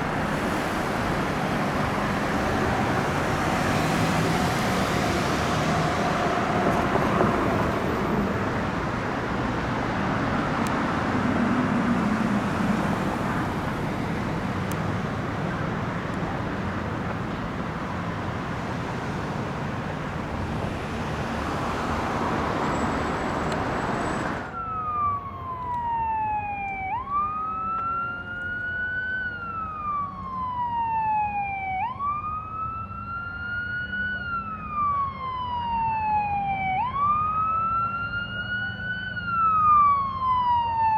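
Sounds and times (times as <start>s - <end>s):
fire engine siren wailing: 0.0s - 40.9s
road traffic: 0.0s - 40.9s.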